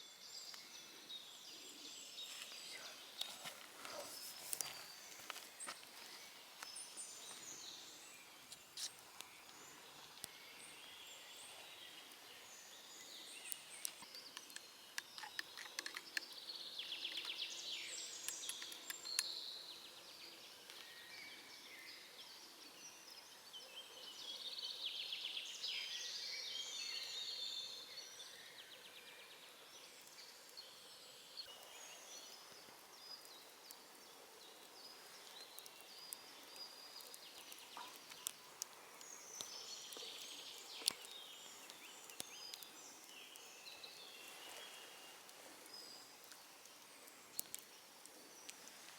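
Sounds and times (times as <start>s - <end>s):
birds singing: 0.0s - 48.9s
faint woodland ambience: 0.0s - 48.9s.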